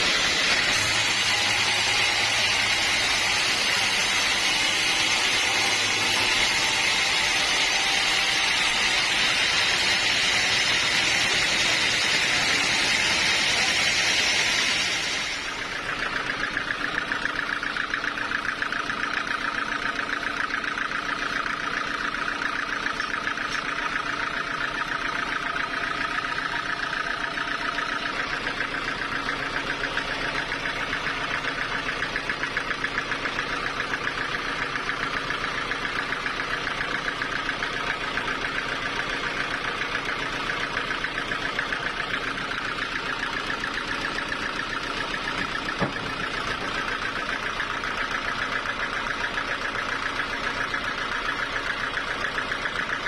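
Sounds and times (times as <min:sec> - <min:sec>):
sawmill engine pulsing: 0:00.0 - 0:53.0.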